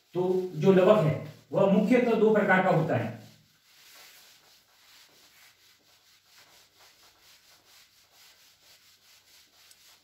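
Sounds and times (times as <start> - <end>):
eraser rubbing on whiteboard: 0.0 - 10.0.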